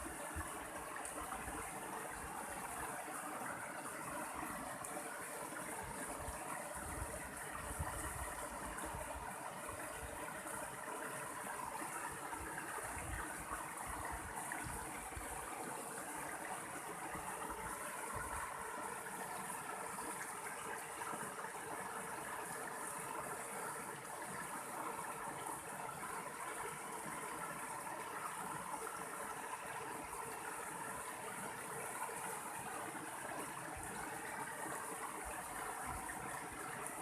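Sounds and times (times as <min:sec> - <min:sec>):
mountain stream flowing: 0:00.0 - 0:37.0.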